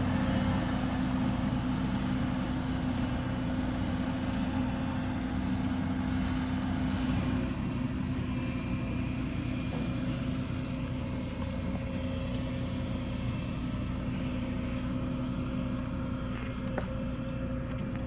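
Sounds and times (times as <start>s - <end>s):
diesel machinery engine drone: 0.0s - 18.0s.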